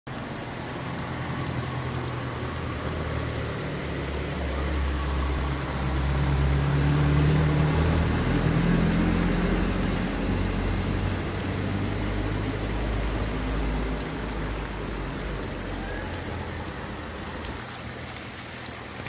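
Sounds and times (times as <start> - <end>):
heavy rain: 0.1 - 19.0
wheels splashing water: 0.1 - 19.0.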